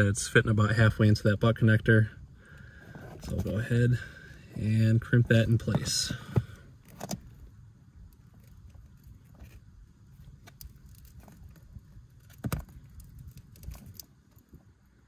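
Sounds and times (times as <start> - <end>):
rustling of tool and wires: 2.6 - 15.0.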